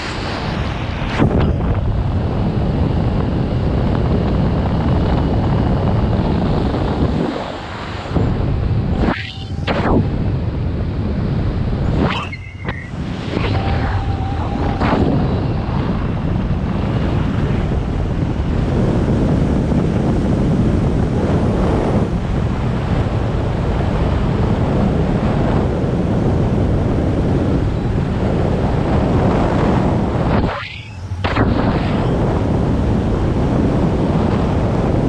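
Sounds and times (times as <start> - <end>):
loud wind rushing over microphone: 0.0 - 35.0.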